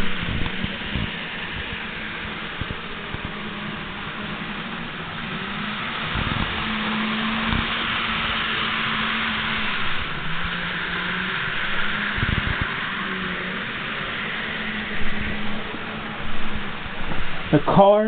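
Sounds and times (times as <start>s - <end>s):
model train motor hum: 0.0s - 18.0s
steady hiss: 0.0s - 18.0s.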